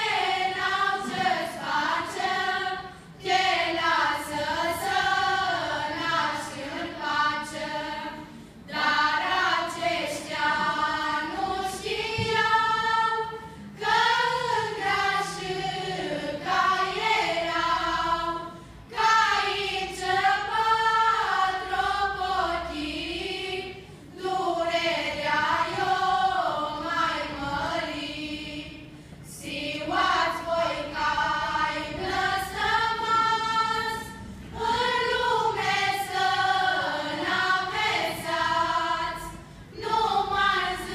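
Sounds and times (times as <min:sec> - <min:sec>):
choir of women and girls singing: 0:00.0 - 0:40.9.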